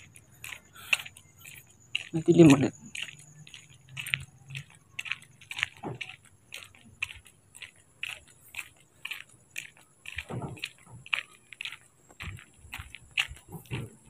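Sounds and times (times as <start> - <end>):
footsteps walking: 0.0 - 14.0.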